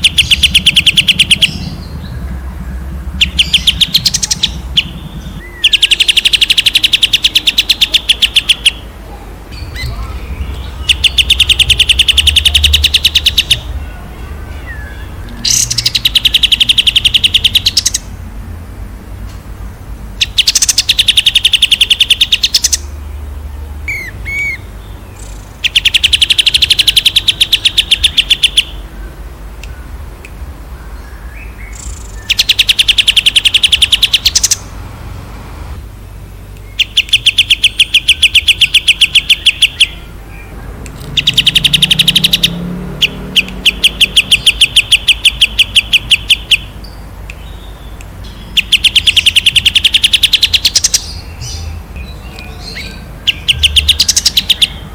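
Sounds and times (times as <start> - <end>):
songbird singing rapid notes: 0.0 - 18.2, 20.0 - 34.8, 36.0 - 54.9.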